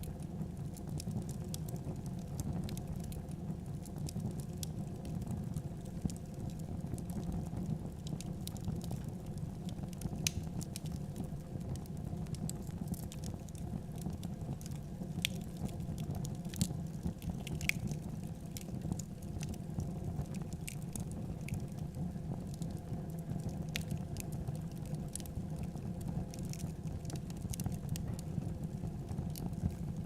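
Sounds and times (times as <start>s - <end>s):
fire crackling and popping: 0.0s - 30.0s
low rumble of fire: 0.0s - 30.0s.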